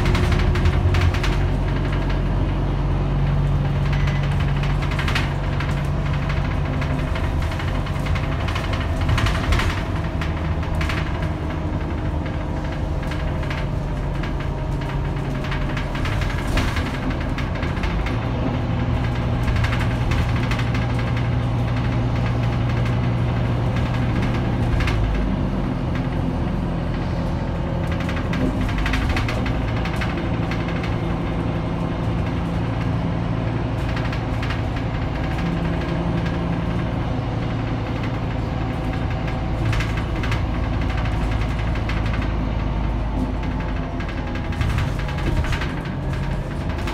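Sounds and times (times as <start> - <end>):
bus body rattling: 0.0 - 46.9
bus diesel engine droning: 0.0 - 46.9.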